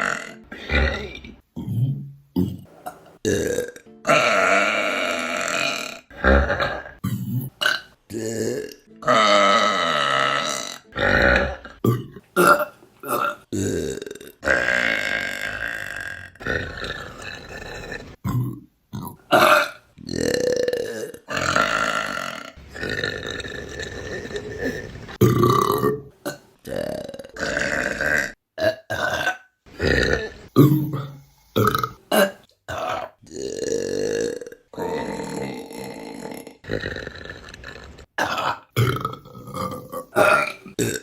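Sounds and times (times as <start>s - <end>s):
woman burping: 0.0s - 41.0s.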